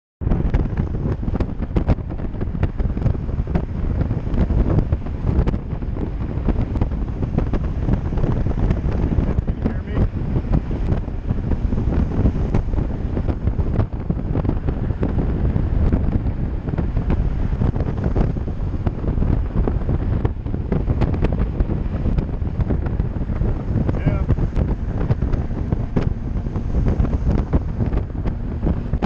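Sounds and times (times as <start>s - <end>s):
wind buffeting microphone: 0.2s - 29.0s.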